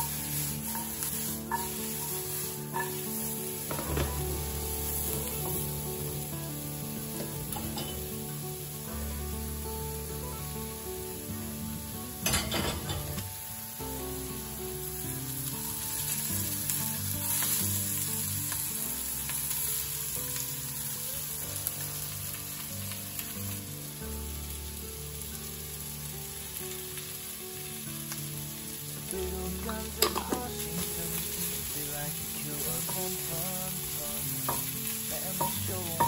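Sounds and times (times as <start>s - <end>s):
vegetables sizzling in frying pan: 0.0s - 36.0s.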